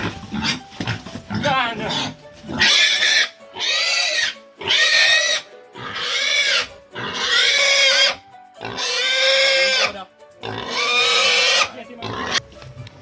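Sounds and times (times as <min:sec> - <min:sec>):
pigs squealing: 0:00.0 - 0:12.4.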